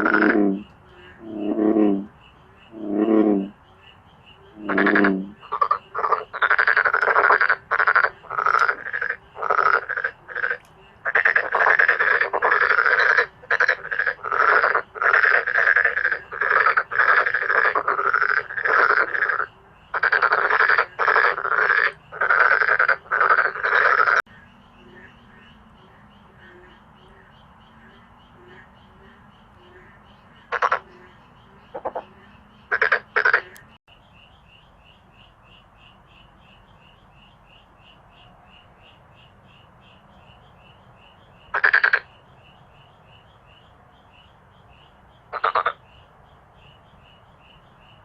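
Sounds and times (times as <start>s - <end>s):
frogs croaking in chorus: 0.0s - 48.0s.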